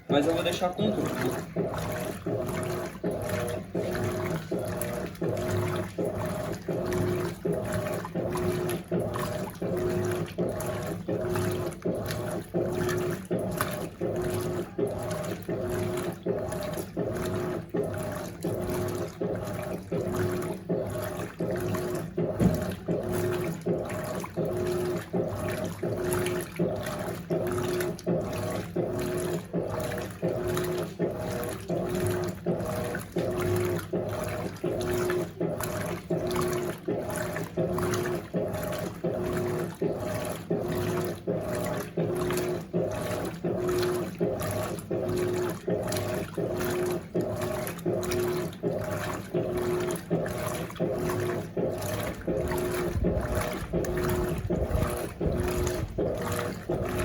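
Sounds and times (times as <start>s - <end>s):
agitator churning water: 0.0s - 57.0s
washing machine motor hum: 0.0s - 57.0s.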